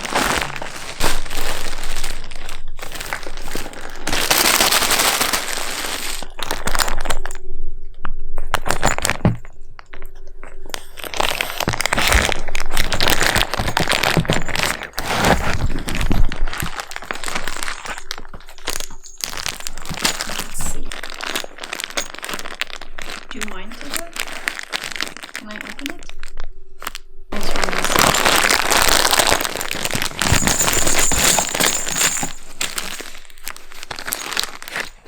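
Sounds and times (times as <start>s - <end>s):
cardboard box crinkling and cracking: 0.0s - 7.4s, 8.6s - 9.4s, 10.7s - 35.0s.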